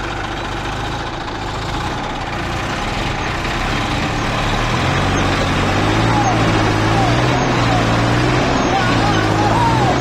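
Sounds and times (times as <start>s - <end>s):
tractor diesel engines running: 0.0s - 10.0s.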